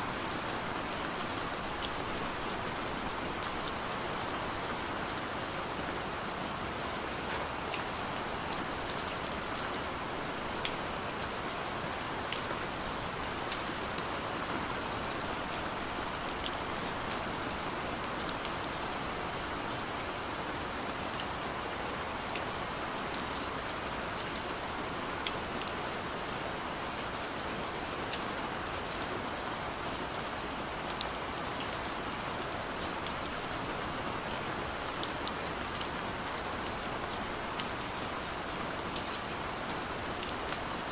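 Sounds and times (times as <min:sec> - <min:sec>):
gentle rain hiss: 0:00.0 - 0:40.9
raindrops ticking on a surface: 0:00.1 - 0:40.9.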